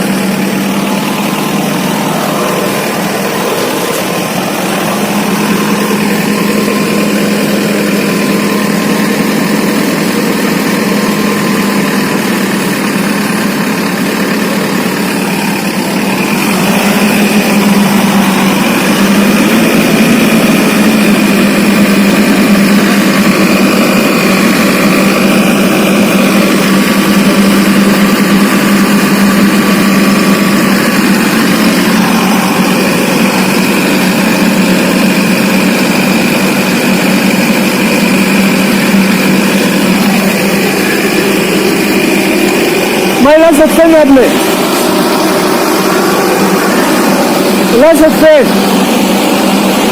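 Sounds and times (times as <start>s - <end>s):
motor engine humming: 0.0s - 49.9s.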